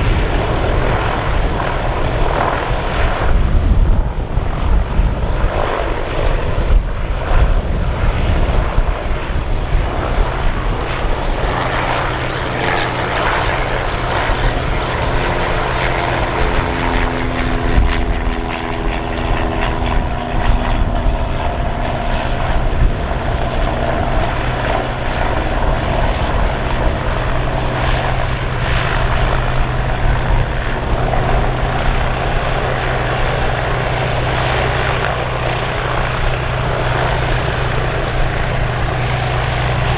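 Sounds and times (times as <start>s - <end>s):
aircraft piston engines and propellers: 0.0s - 39.9s.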